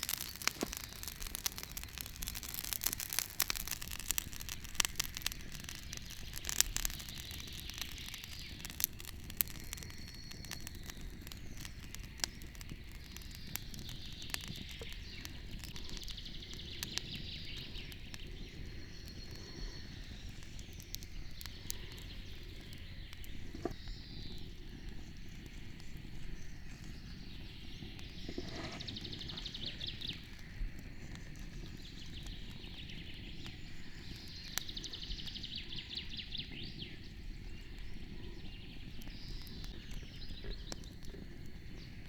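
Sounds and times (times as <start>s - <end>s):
faint birds calling: 0.0s - 42.0s
wood fire crackling and popping: 0.0s - 42.0s.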